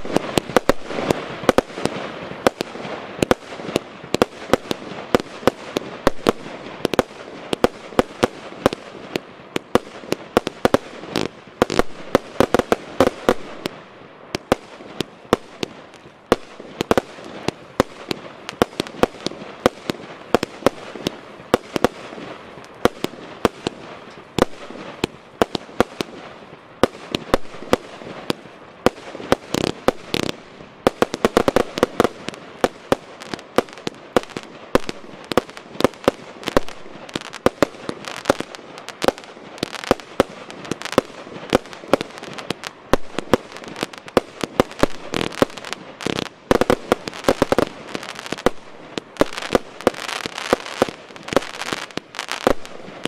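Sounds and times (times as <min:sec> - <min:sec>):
firework bangs: 0:00.0 - 0:53.0
firework hiss and crackle: 0:00.0 - 0:53.0.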